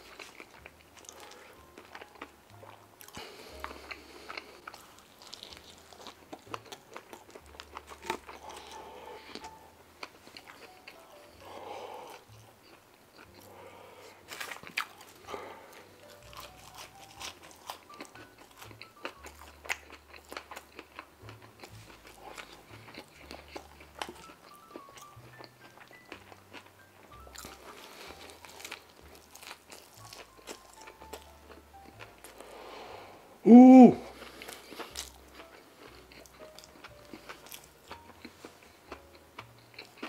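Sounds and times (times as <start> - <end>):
chewing food: 0.0 - 32.7, 34.1 - 40.0
quiet background music: 0.0 - 40.0.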